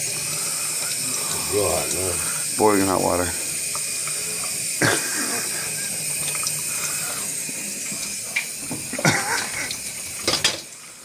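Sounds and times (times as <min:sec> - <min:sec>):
water running from outlet: 0:00.0 - 0:11.0.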